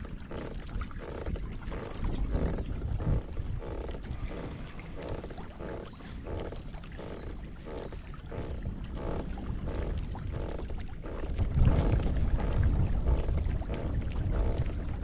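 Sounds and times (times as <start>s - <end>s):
kayak paddle strokes in water: 0.0s - 15.0s
wind rumble on microphone: 0.0s - 15.0s.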